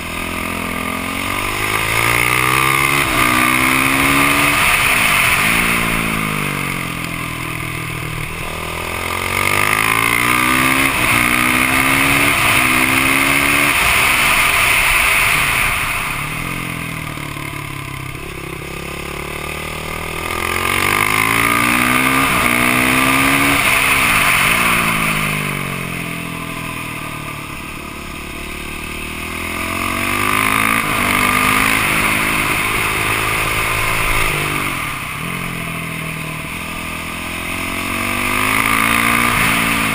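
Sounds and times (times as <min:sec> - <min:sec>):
dirt bike engine at full throttle: 0:00.0 - 0:39.9.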